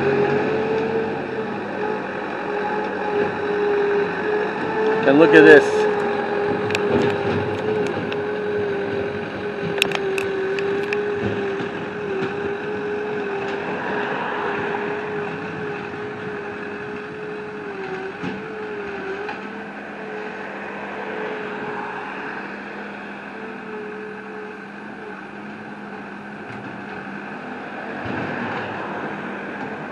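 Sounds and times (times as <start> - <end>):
engine running steadily: 0.0 - 29.9.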